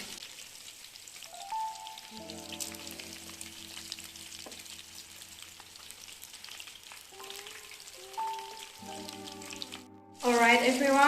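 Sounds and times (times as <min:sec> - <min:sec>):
chicken frying in hot oil: 0:00.0 - 0:11.0
soft background music: 0:01.3 - 0:11.0.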